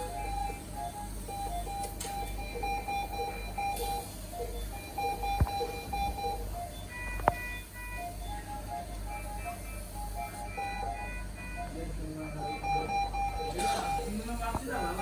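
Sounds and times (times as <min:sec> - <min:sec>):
tinny electronic beeping tune: 0:00.0 - 0:14.2.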